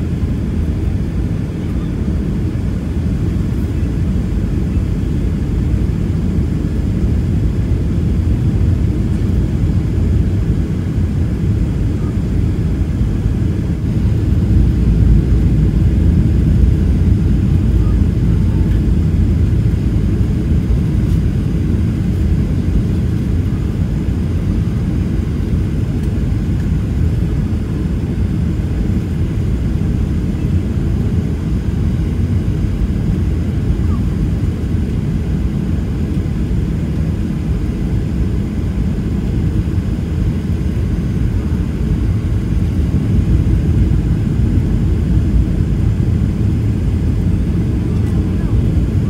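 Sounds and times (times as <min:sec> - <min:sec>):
aircraft cabin engine rumble: 0:00.0 - 0:49.0.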